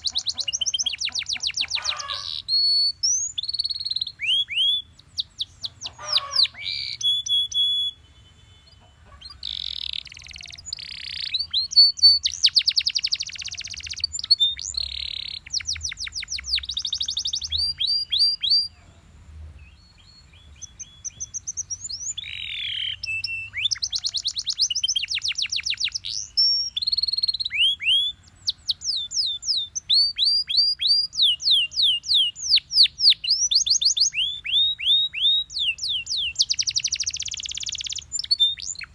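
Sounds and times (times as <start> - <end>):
canary singing: 0.0 - 18.9, 19.6 - 38.9.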